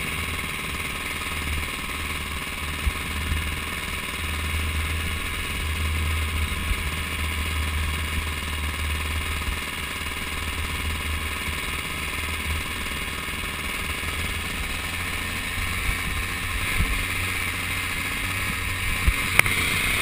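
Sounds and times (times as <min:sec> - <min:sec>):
motorbike engine at low revs: 0:00.0 - 0:20.0.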